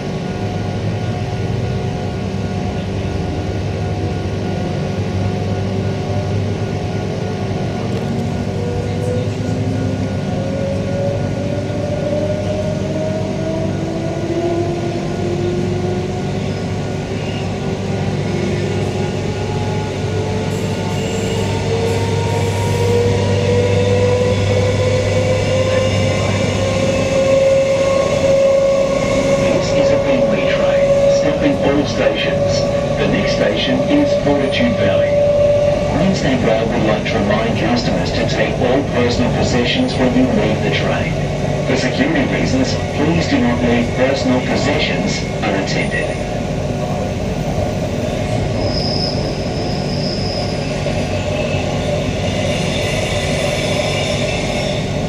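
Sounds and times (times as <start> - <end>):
train electric hum: 0.0 - 55.0
train wheels on track: 0.0 - 55.0.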